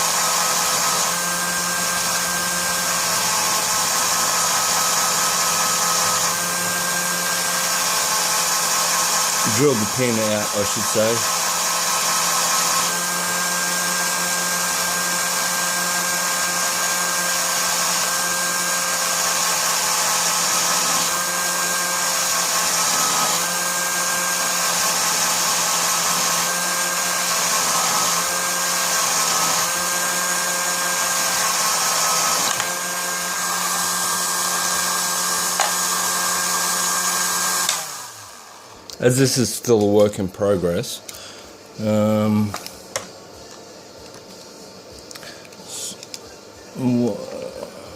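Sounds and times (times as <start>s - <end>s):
drill motor whining: 0.0s - 39.5s, 44.9s - 47.9s.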